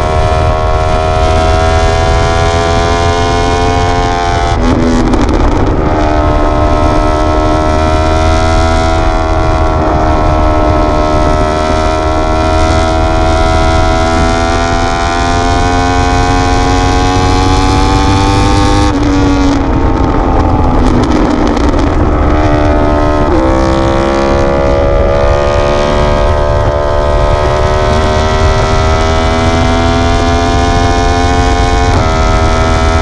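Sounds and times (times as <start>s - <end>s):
low rush: 0.0s - 33.0s
motorcycle engine accelerating: 0.0s - 33.0s.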